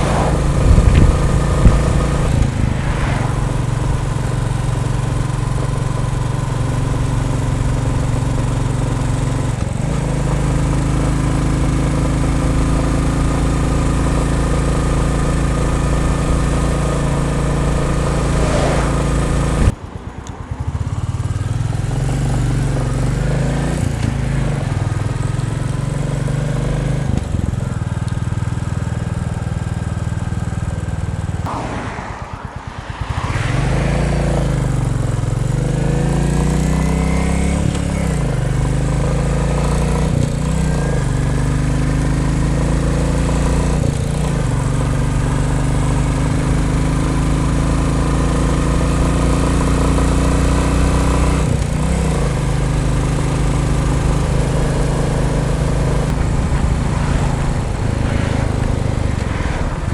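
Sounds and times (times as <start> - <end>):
motorcycle engine running: 0.0 - 31.5, 32.2 - 59.9.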